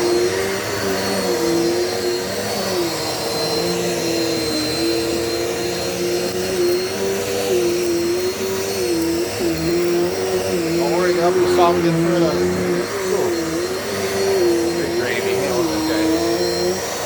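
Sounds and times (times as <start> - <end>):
vacuum cleaner on carpet: 0.0 - 17.0.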